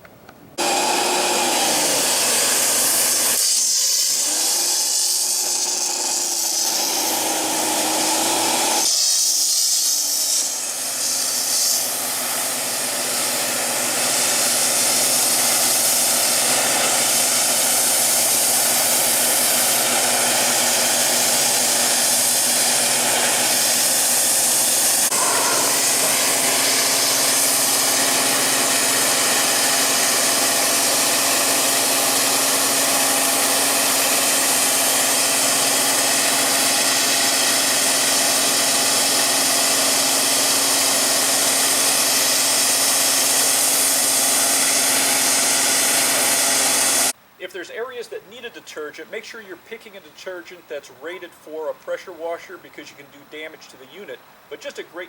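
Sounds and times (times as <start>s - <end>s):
pressure washer water jet hissing: 0.6s - 47.2s
pump motor hum: 0.6s - 47.2s.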